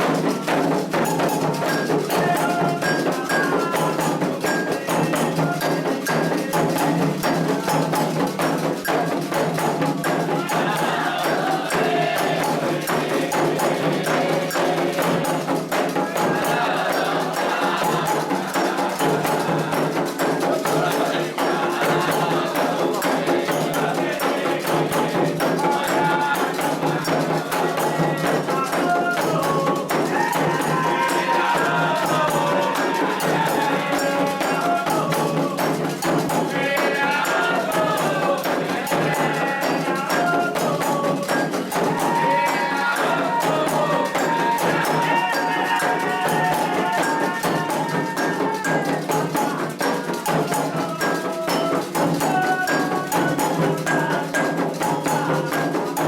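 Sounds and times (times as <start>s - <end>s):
hand drums playing: 0.0s - 56.0s
metal bell rhythm: 0.0s - 56.0s
voices singing a chant: 0.0s - 56.0s.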